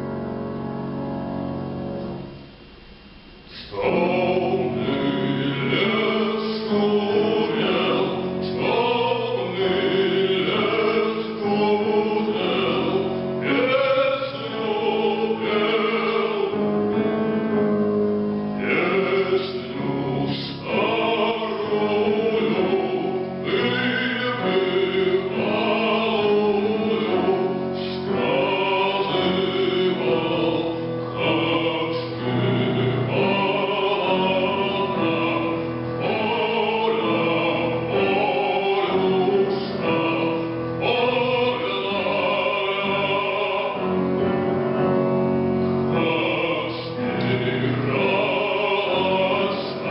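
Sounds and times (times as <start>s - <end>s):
man singing over accompaniment: 3.5s - 17.4s, 18.6s - 44.9s, 45.9s - 49.9s.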